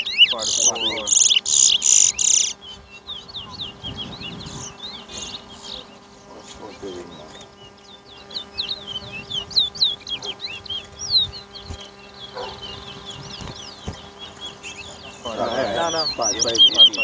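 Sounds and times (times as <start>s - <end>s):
finches singing whistled chirps: 0.0s - 17.0s.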